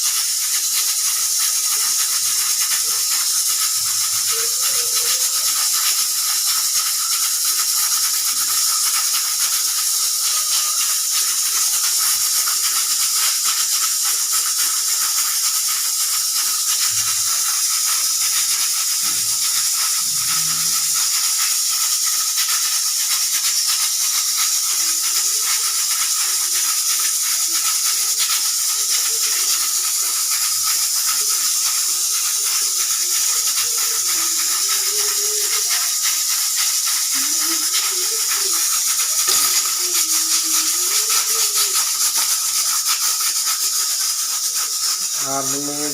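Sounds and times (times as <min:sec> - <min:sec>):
steam hissing from pressure cooker: 0:00.0 - 0:45.9.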